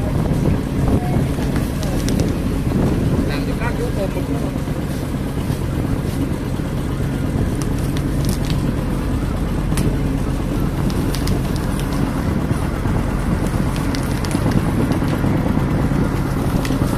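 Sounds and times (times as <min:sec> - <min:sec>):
boat engine running: 0:00.0 - 0:16.9
water rushing along hull: 0:00.0 - 0:16.9.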